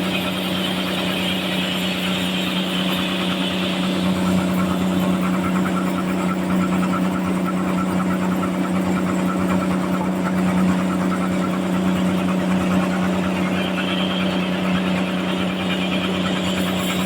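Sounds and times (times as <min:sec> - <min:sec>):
sawmill machine hum: 0:00.0 - 0:17.0.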